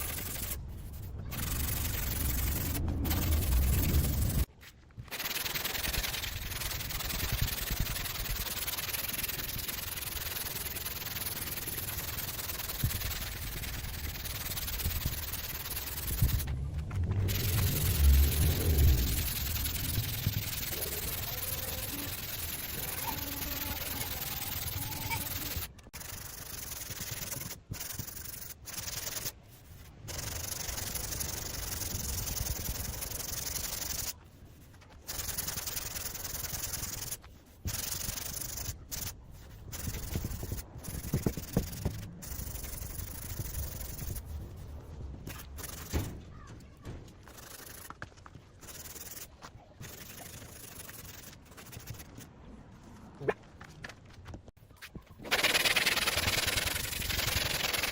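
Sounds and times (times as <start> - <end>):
rubbing and scraping on car bodywork: 0.0 - 57.9.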